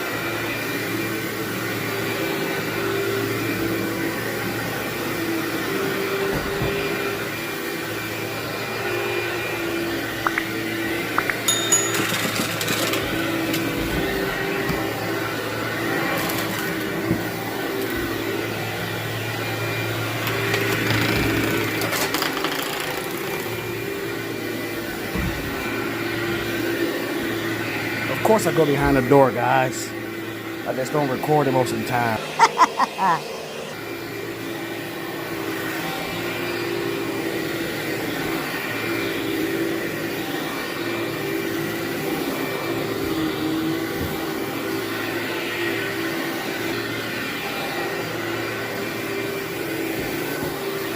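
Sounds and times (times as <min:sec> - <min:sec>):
vacuum cleaner running over carpet: 0:00.0 - 0:50.9.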